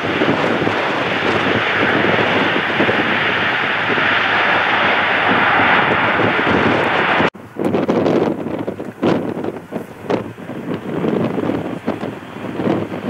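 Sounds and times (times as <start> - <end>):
jet engine of passing airliner: 0.0 - 13.0
wind buffeting microphone: 0.0 - 13.0.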